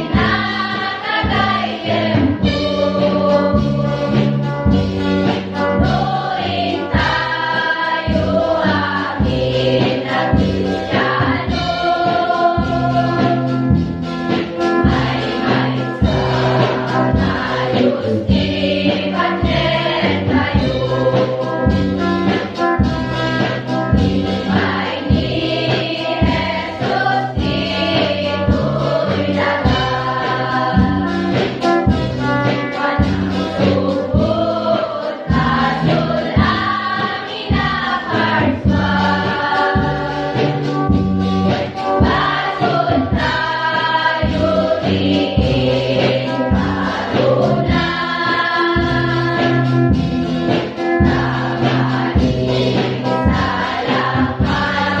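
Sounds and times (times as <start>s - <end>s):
choir singing: 0.0s - 4.4s, 5.6s - 13.8s, 14.8s - 22.1s, 24.4s - 31.6s, 32.2s - 40.8s, 41.5s - 55.0s
instrumental accompaniment with beat: 0.0s - 55.0s.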